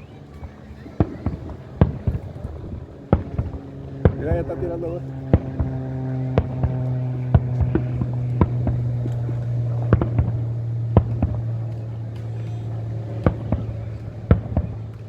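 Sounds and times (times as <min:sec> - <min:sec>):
firecrackers popping: 0:00.0 - 0:15.0
steady low hum: 0:00.0 - 0:15.0.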